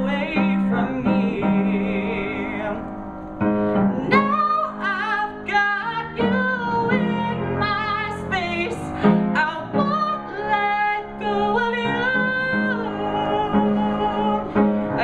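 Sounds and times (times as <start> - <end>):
man singing with vibrato: 0.0 - 2.9, 3.9 - 15.0
piano accompaniment: 0.0 - 15.0.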